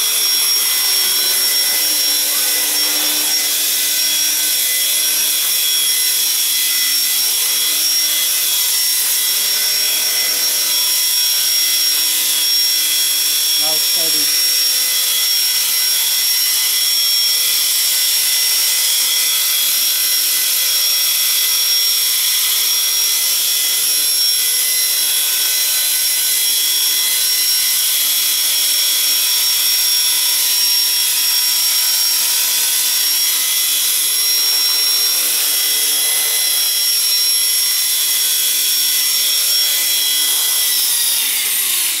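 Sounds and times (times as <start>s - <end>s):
model helicopter whine: 0.0s - 42.0s.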